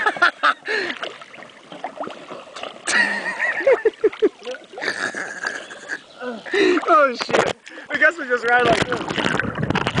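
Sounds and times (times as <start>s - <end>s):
water splashing and gurgling: 0.0s - 10.0s.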